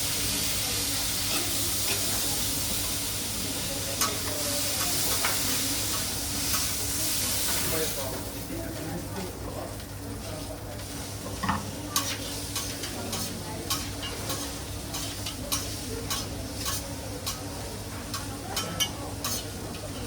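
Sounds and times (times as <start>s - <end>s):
food sizzling: 0.0s - 20.0s.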